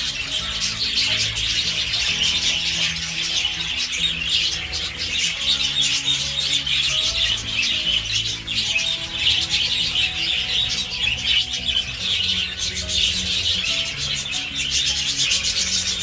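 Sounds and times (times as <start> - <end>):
budgerigars chirping: 0.0 - 16.0
low sustained background music: 0.0 - 16.0.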